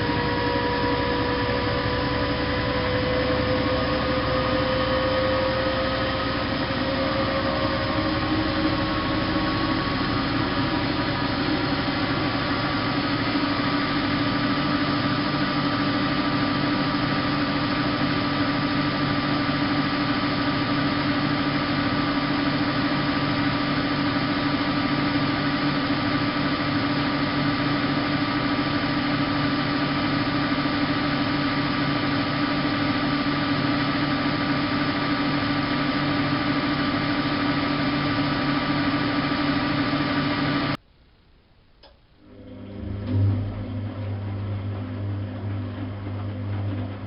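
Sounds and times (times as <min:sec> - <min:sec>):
washing machine motor whine: 0:00.0 - 0:40.8, 0:41.8 - 0:47.0.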